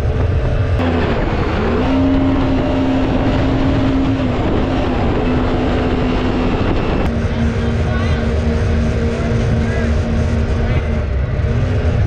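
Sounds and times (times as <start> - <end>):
boat engine at high revs: 0.6 - 12.0.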